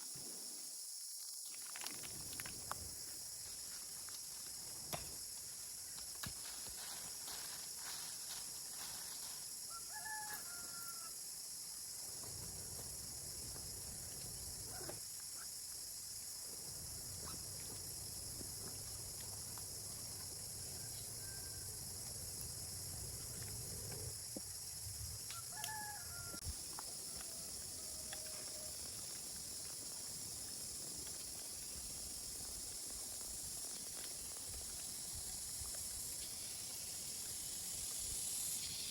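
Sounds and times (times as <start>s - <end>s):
high outdoor hiss: 0.0s - 38.9s.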